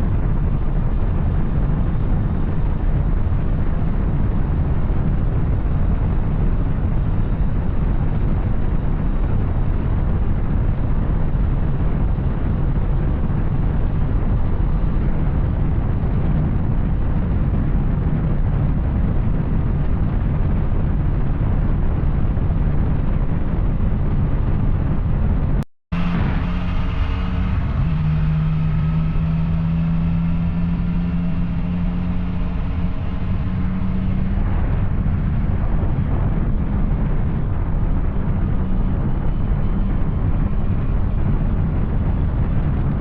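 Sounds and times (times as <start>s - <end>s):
motorcycle riding: 0.0s - 43.0s
wind rumble on microphone: 0.0s - 43.0s.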